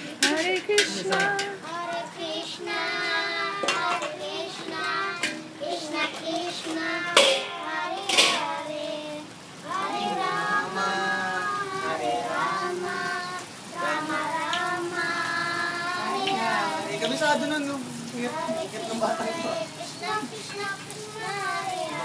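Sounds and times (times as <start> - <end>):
children singing: 0.8 - 17.2, 18.2 - 22.0.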